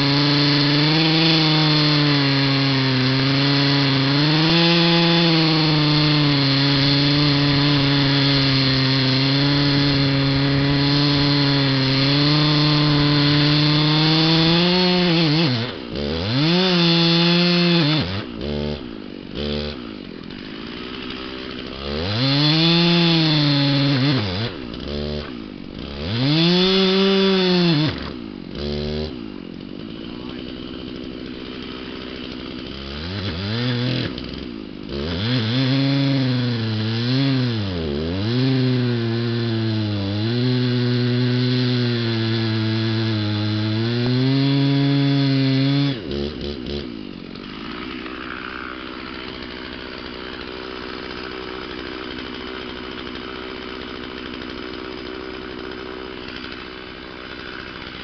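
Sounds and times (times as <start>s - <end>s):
chainsaw cutting log: 0.0s - 58.0s
chainsaw idling: 0.0s - 58.0s.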